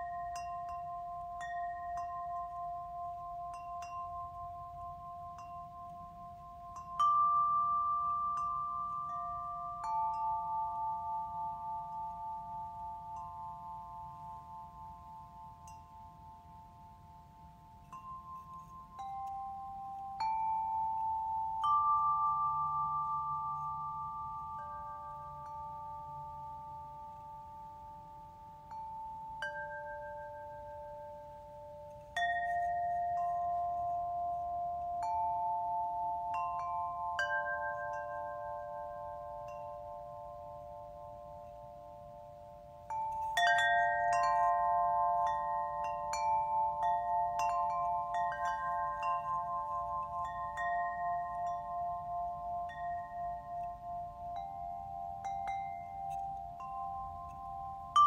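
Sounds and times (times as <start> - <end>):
small chime bells ringing: 0.0 - 58.0.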